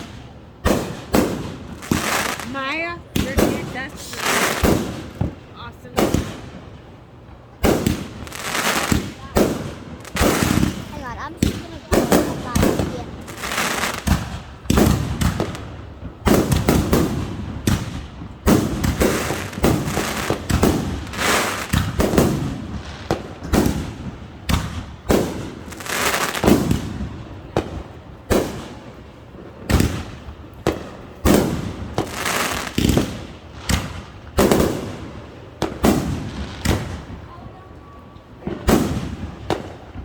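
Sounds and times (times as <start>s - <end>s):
fireworks bursts: 0.0s - 40.0s
fireworks crackling: 0.0s - 40.0s.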